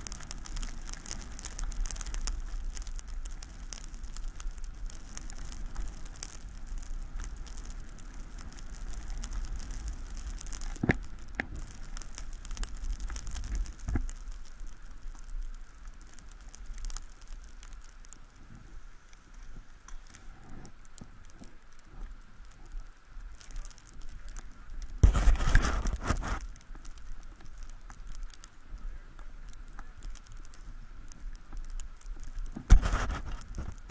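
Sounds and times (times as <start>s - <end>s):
snow crackling and scraping: 0.0s - 33.9s
wind rumble on microphone: 0.0s - 33.9s.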